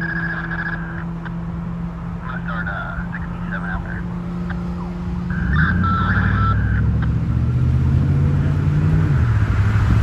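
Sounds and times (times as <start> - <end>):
vehicle engine running loudly: 0.0 - 10.0.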